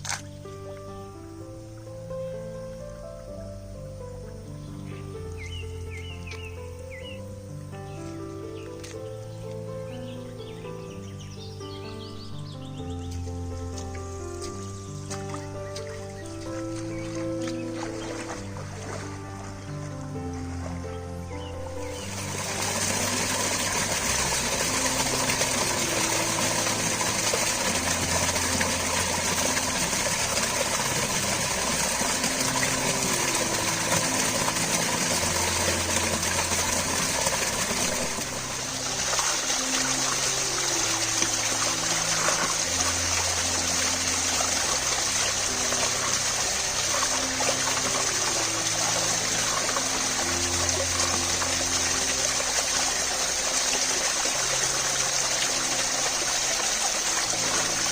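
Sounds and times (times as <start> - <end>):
quiet background music: 0.0 - 57.9
running water rushing: 0.0 - 57.9.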